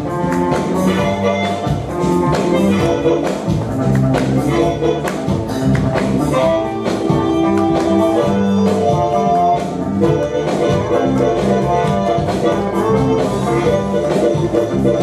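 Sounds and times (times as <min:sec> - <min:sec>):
blues song: 0:00.0 - 0:15.0.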